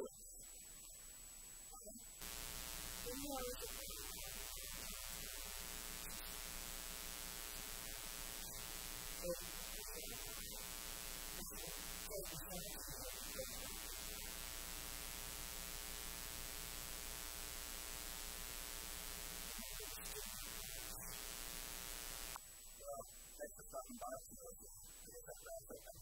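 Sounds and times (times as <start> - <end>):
electrical mains hum with hiss: 0.0 - 26.0.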